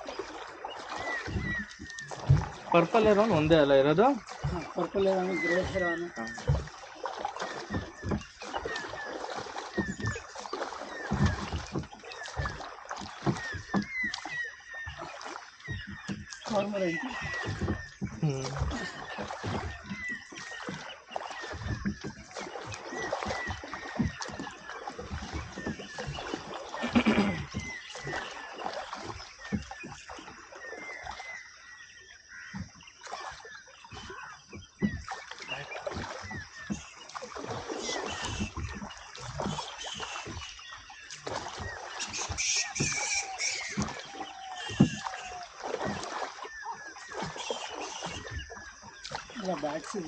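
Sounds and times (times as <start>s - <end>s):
oars knocking: 0.0s - 31.2s, 32.2s - 50.0s
birds chirping: 0.0s - 50.0s
water sloshing against boat hull: 0.0s - 50.0s.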